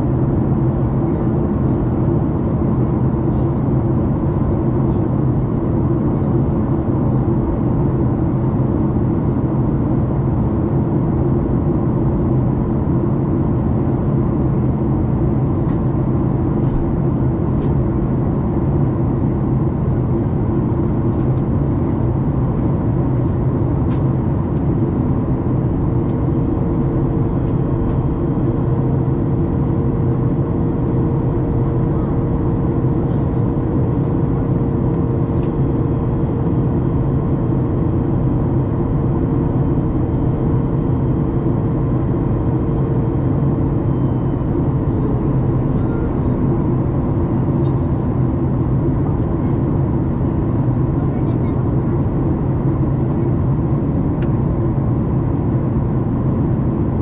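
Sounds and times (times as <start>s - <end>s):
airplane cabin engine noise: 0.0s - 57.0s.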